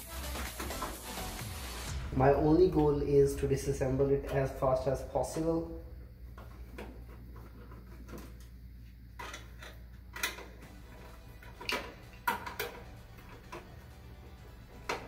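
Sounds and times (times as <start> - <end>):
low steady hum: 1.9 - 15.0.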